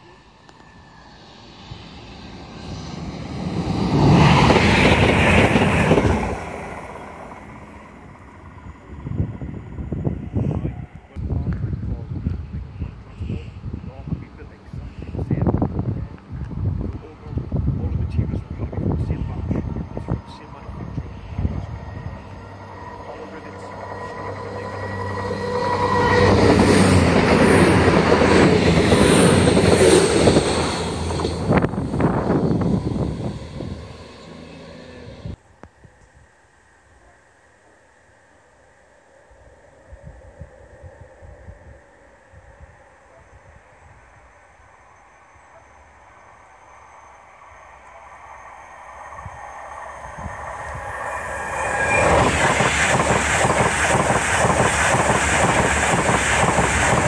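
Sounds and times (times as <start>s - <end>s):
train passing at speed: 0.0s - 36.8s, 37.5s - 57.0s.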